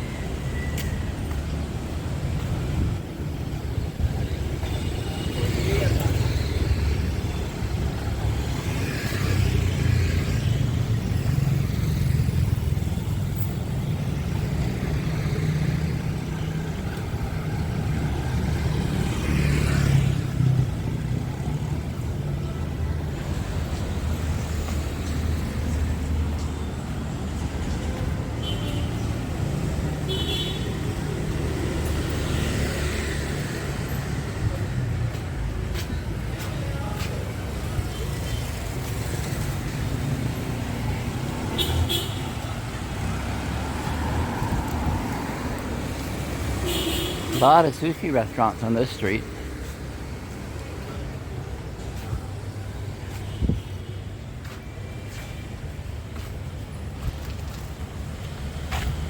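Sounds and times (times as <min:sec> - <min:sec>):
cars and motorbikes passing: 0:00.0 - 0:59.0.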